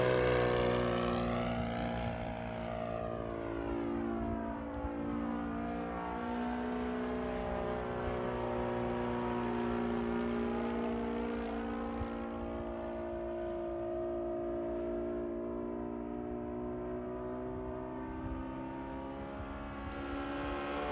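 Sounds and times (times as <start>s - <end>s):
model plane engine flying by: 0.0s - 20.9s.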